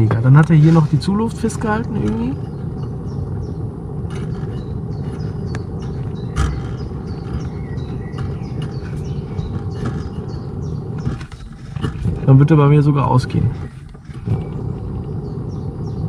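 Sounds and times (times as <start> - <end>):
gas burner rushing: 0.0 - 16.0
bird chirps: 0.2 - 16.0.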